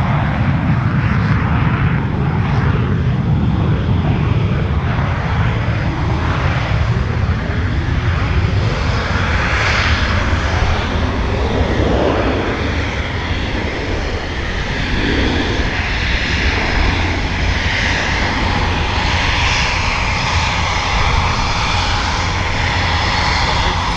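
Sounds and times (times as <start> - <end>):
jet engine rumble: 0.0 - 23.9.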